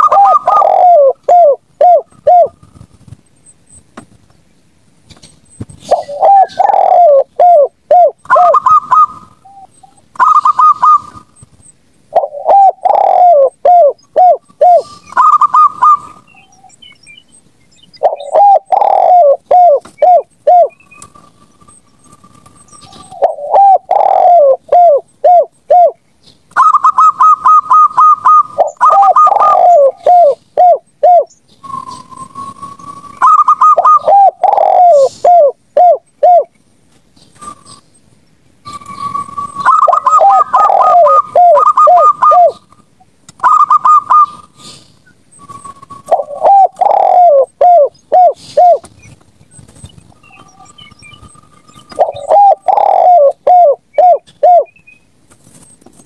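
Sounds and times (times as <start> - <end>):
doves cooing: 0.0 - 3.1, 5.7 - 11.5, 12.1 - 16.9, 17.9 - 36.5, 38.7 - 42.8, 43.4 - 54.8.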